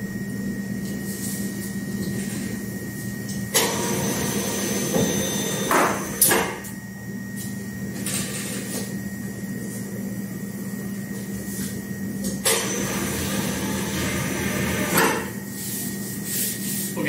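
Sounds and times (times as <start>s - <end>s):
dough sheeter motor hum: 0.0s - 17.0s.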